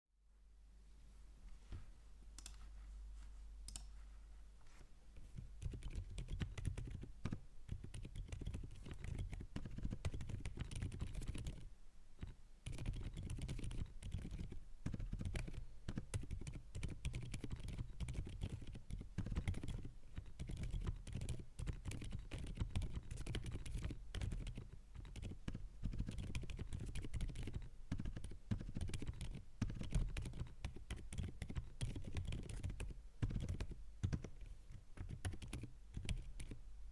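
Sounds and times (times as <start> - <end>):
mechanical keyboard typing: 5.6 - 36.6.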